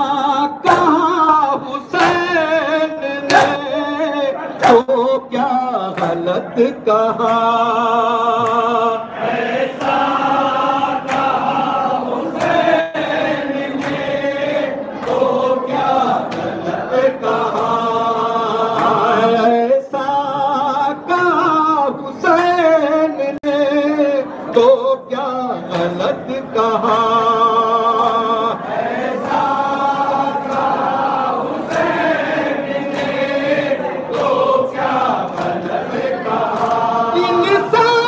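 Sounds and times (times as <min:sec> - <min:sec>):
men chanting in unison: 0:00.0 - 0:38.0.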